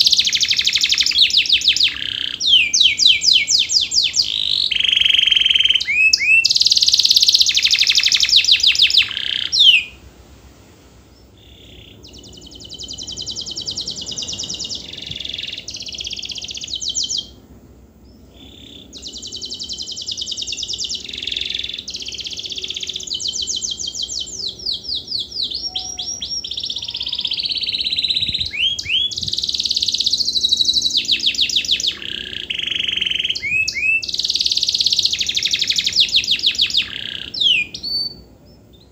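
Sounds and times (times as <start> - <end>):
canary singing trills: 0.0 - 10.0, 11.1 - 17.4, 18.0 - 38.9.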